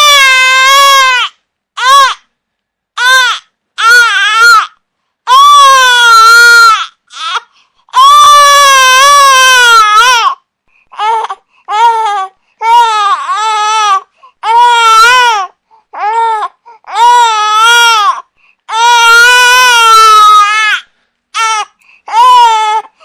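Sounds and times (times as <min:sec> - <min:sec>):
infant crying loudly: 0:00.0 - 0:02.2, 0:03.0 - 0:20.8, 0:21.4 - 0:22.9.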